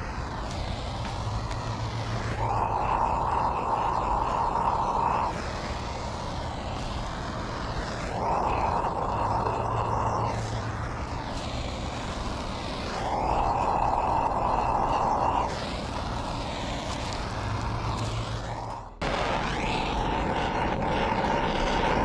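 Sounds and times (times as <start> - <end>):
gas torch flame hissing: 0.0 - 22.0.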